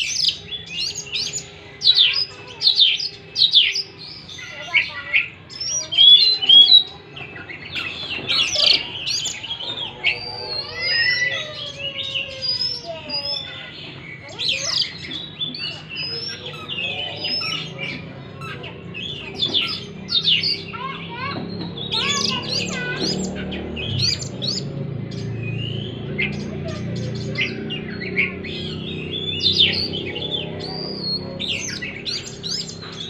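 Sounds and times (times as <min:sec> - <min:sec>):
songbird whistling and chirping: 0:00.0 - 0:33.0.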